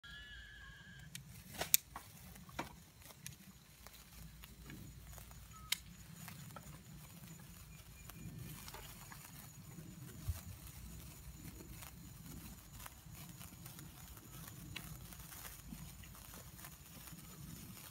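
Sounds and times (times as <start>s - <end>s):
sparklers fizzing and crackling: 0.9s - 17.9s.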